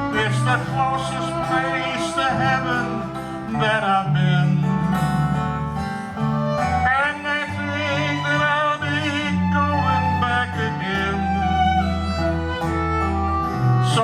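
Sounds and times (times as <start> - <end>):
acoustic country band music: 0.0 - 14.0
guitar: 0.0 - 14.0.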